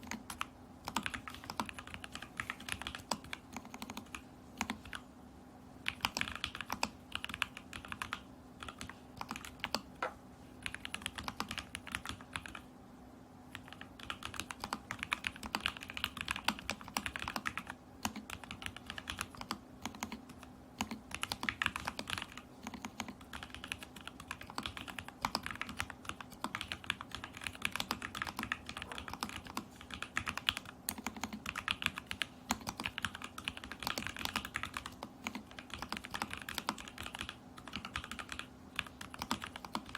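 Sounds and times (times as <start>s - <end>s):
typing on mechanical keyboard: 0.0s - 5.0s, 5.8s - 9.9s, 10.6s - 12.6s, 13.5s - 39.9s.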